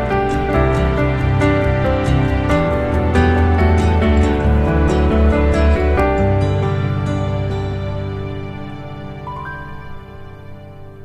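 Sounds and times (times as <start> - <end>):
soft sustained chord music: 0.0 - 11.0.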